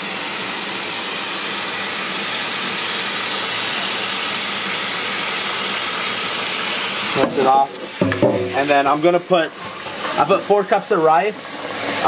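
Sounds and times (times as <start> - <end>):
rice rinsed by hand: 0.0 - 12.0
faucet running into a pot: 1.6 - 12.0.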